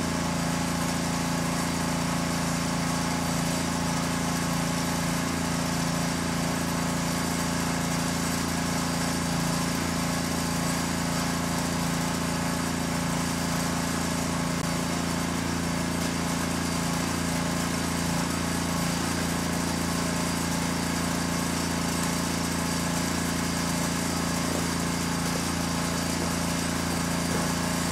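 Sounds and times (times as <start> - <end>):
small engine idling: 0.0 - 27.9.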